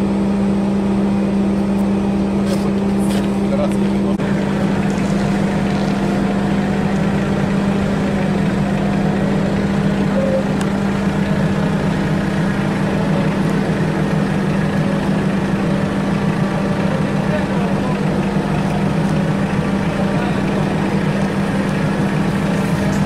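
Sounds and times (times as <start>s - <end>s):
machinery loud low hum: 0.0s - 23.0s.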